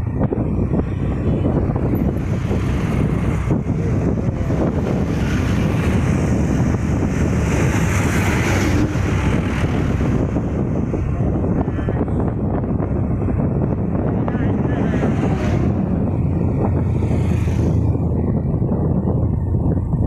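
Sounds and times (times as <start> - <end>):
vehicle engine and road noise: 0.0 - 20.0
wind rushing over microphone: 0.0 - 20.0.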